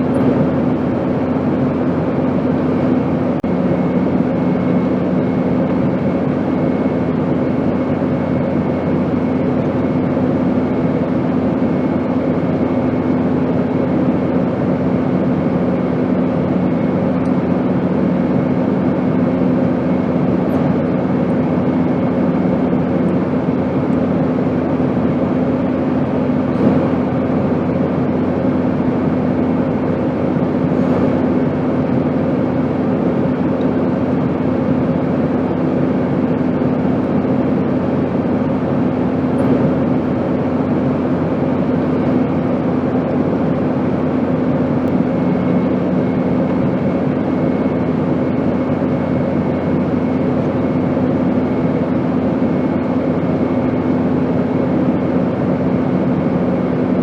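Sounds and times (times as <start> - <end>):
airplane engine drone: 0.0 - 57.0
held hum tones: 0.0 - 57.0.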